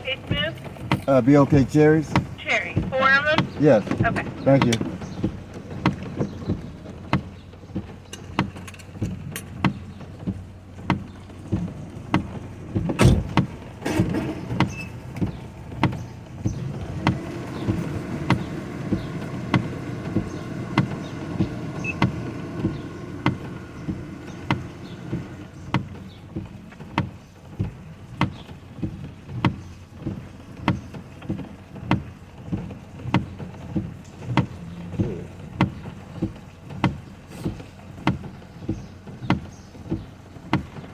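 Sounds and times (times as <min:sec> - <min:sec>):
car engine hum: 0:00.0 - 0:40.9
regular clicking: 0:00.0 - 0:40.9.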